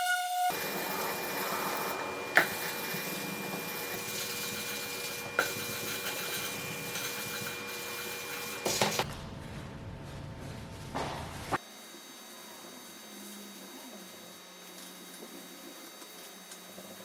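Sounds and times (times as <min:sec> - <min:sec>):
workshop hum: 0:00.0 - 0:17.0.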